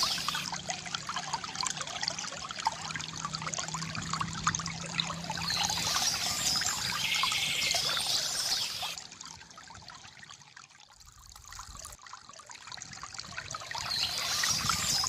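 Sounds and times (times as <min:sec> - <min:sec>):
fountain water trickling into basin: 0:00.0 - 0:15.0.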